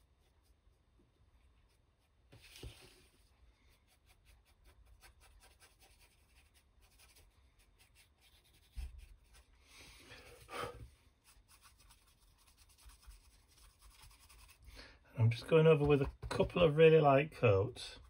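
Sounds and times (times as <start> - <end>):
brush scratchy strokes: 0.0 - 14.8.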